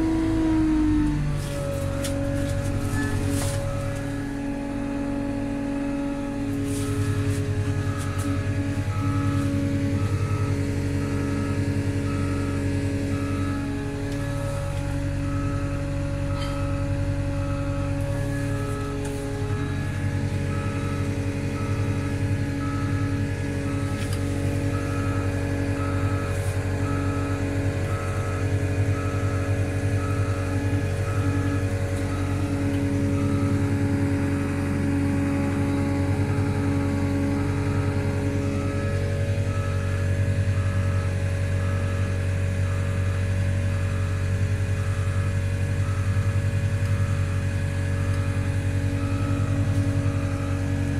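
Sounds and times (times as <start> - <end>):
warning beeper: 0.0 - 43.2
diesel roller engine running: 0.0 - 50.9.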